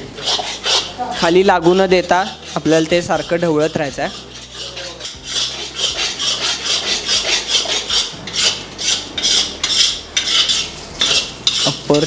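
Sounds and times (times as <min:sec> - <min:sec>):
spatula scraping metal pan: 0:00.0 - 0:12.0.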